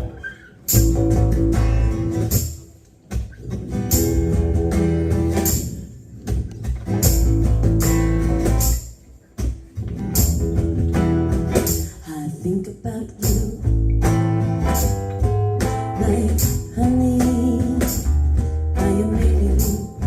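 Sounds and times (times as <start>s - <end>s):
heavy bass: 0.0s - 12.0s, 13.2s - 20.0s
guitar chords: 0.0s - 20.0s.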